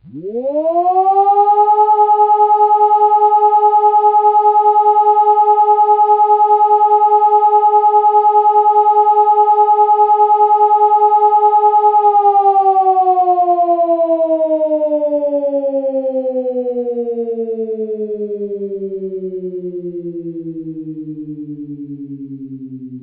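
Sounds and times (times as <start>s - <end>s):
electronic warning siren: 0.0s - 23.0s.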